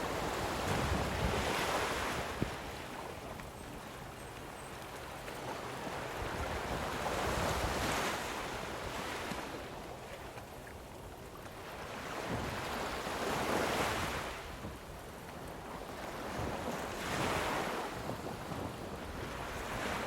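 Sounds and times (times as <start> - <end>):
waves washing onto shore: 0.0 - 20.0
wind rumble on microphone: 0.0 - 20.0.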